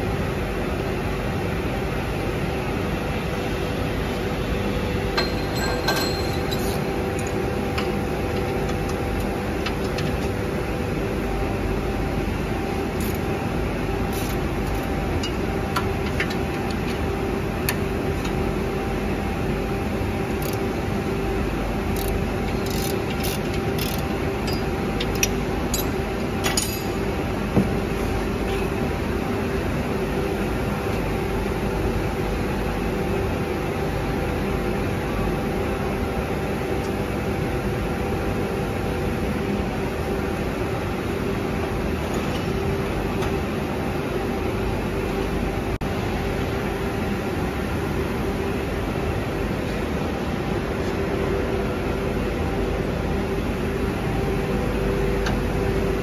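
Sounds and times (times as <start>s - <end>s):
workshop machinery hum: 0.0s - 56.0s.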